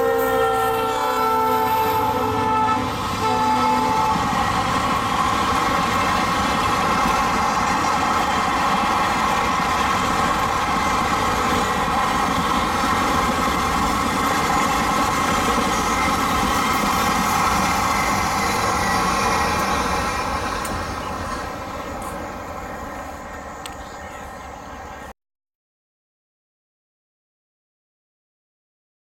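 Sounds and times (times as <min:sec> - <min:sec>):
ringing rail hum: 0:00.0 - 0:25.1
train rumbling over rails: 0:00.0 - 0:25.1.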